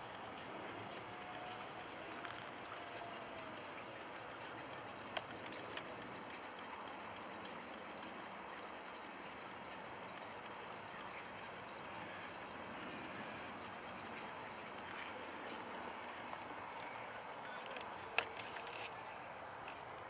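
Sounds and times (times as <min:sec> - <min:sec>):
faint ticks: 0:00.1 - 0:20.0.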